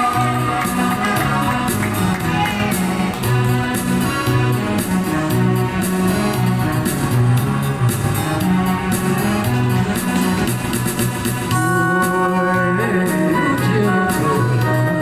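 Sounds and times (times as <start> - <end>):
instrumental pop music: 0.0 - 15.0.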